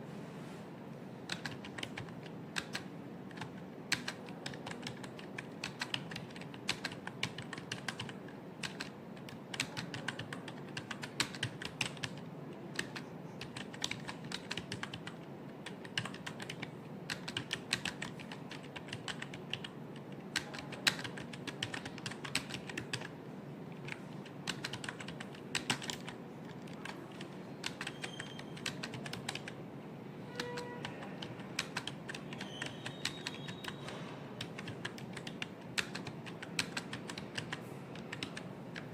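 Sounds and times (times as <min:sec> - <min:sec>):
fast typing on keyboard: 0:01.3 - 0:29.6, 0:30.4 - 0:38.9.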